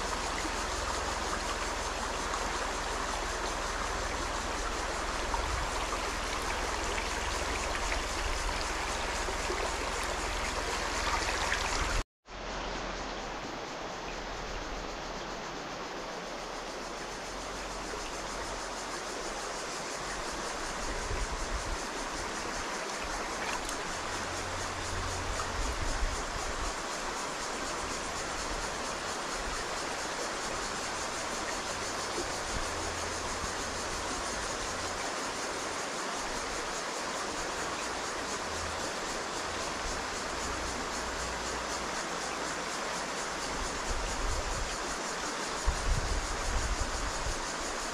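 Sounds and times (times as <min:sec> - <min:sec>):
creek water running over stones: 0:00.0 - 0:47.9.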